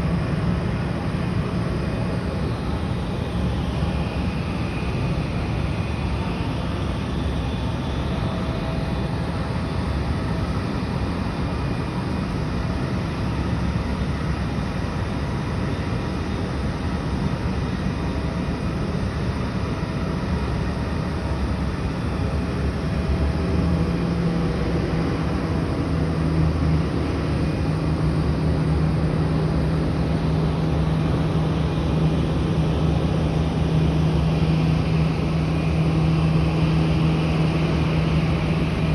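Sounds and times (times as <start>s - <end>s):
jet engine rush: 0.0s - 38.9s.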